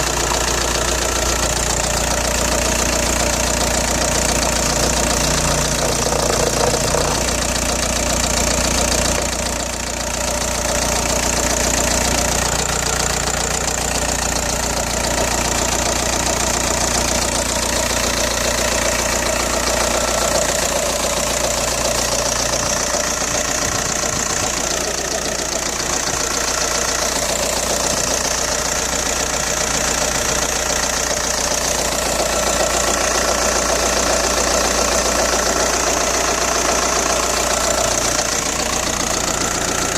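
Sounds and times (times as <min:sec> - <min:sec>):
diesel engine idling with rattle: 0:00.0 - 0:39.9.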